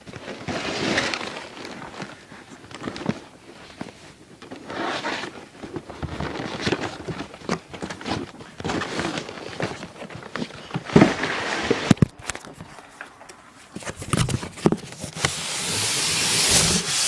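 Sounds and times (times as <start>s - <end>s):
packaging rustling and scraping: 0.0s - 17.0s.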